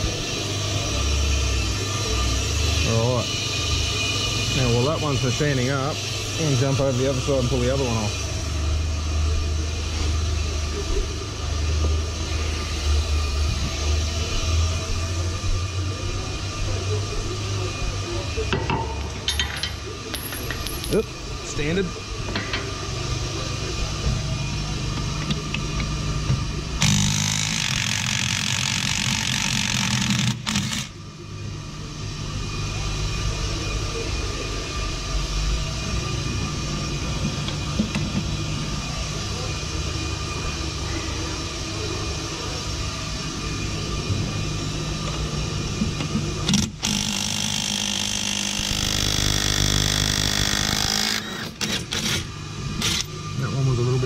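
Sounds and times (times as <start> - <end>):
brake lathe humming: 0.0 - 54.0.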